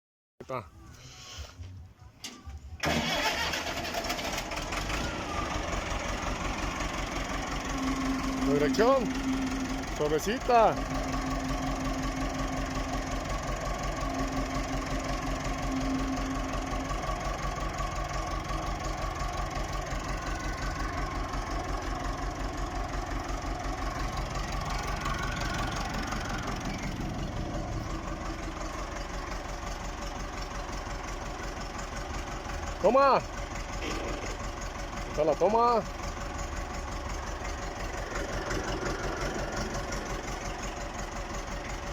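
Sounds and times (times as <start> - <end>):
diesel tractor engine idling: 0.7 - 41.9.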